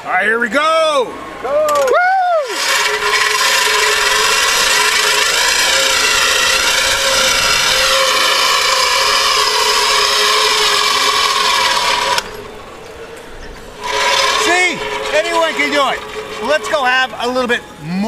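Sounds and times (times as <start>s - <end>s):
pulley wheels whining on cable: 1.2s - 18.0s.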